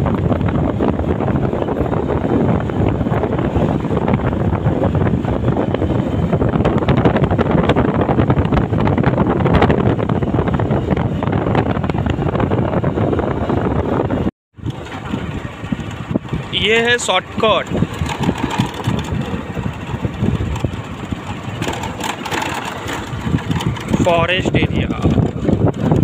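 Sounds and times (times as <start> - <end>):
motorcycle running: 0.0 - 26.0
wind buffeting microphone: 0.0 - 26.0.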